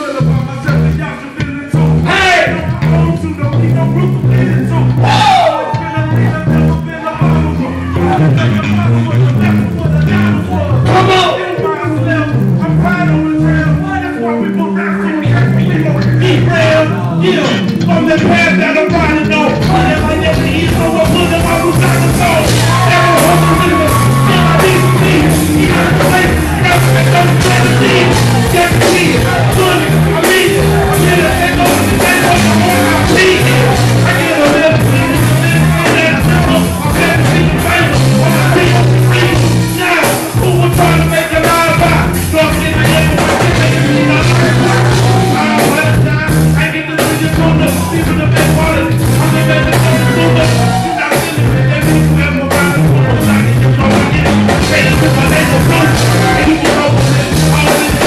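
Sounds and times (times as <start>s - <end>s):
live band music with singing: 0.0s - 58.0s.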